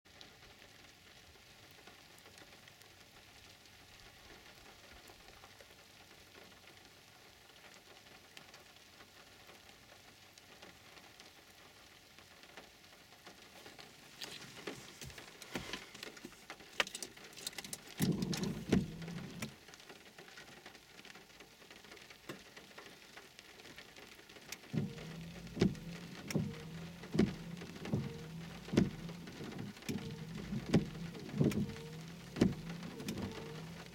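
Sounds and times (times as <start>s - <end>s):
large raindrops hitting surface: 0.1s - 33.9s
rain hiss: 0.1s - 33.9s.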